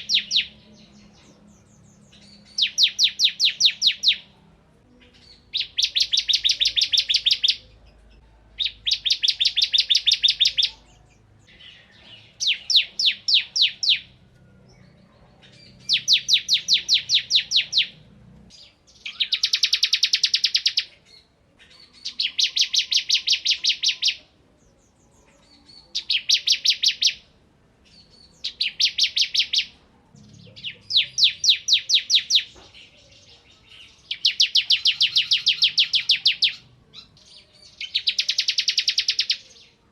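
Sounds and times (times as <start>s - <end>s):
prinia rapid chattering song: 0.0s - 39.9s.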